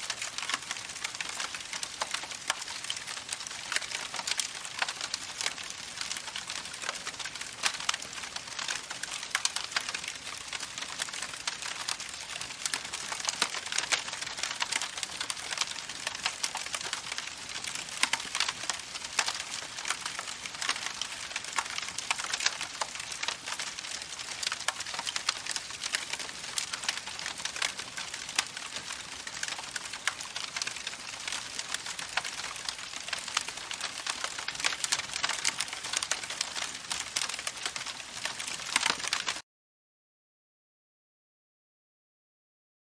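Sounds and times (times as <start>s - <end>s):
campfire crackling and popping: 0.0s - 39.4s.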